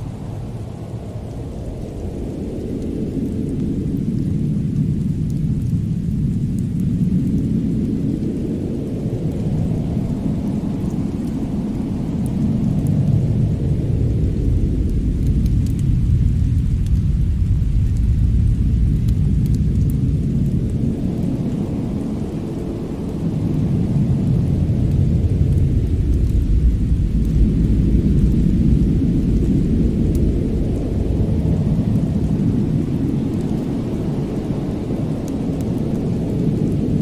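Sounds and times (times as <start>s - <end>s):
fire crackling: 0.0s - 37.0s
low steady rumble: 0.0s - 37.0s.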